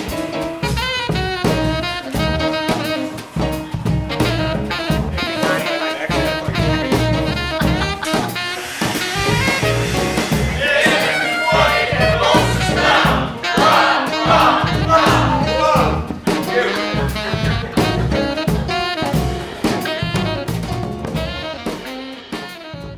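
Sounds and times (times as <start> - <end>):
steady drum beat: 0.0 - 22.9
upbeat instrumental music: 0.0 - 22.9.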